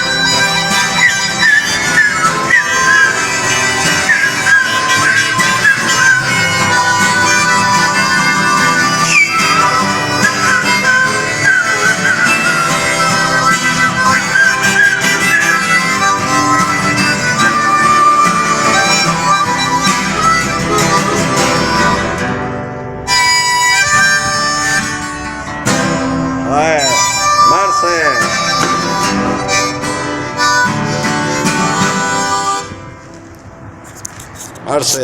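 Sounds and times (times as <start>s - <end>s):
instrumental music: 0.0s - 34.7s.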